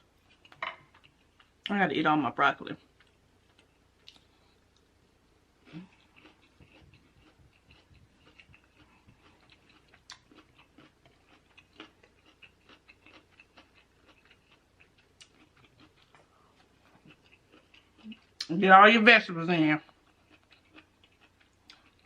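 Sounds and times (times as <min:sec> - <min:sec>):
chewing with mouth clicks: 0:00.2 - 0:01.6, 0:02.9 - 0:04.9, 0:05.6 - 0:18.5, 0:19.8 - 0:22.0.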